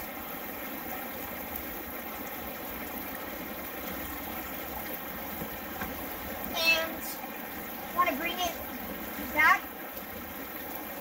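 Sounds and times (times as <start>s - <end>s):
creek water flowing over rocks: 0.0s - 11.0s.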